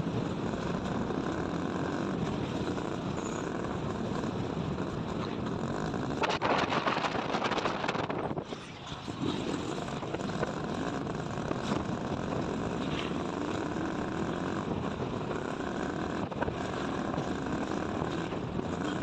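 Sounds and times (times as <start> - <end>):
vehicle running with rumble and hiss: 0.0 - 19.0.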